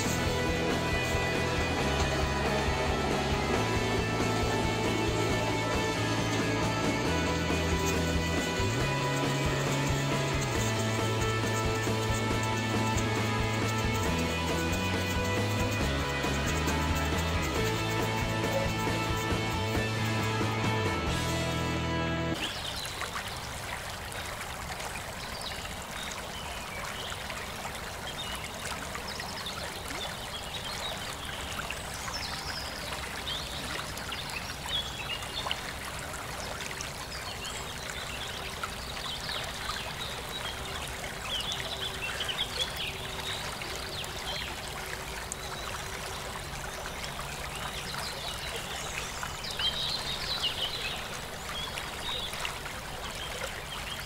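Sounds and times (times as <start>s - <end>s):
small birds chirping: 0.0s - 21.6s, 25.0s - 54.0s.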